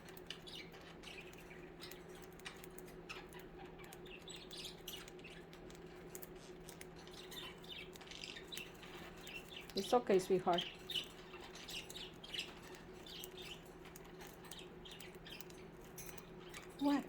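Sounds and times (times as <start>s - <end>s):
budgerigars chirping and chattering: 0.0s - 17.0s.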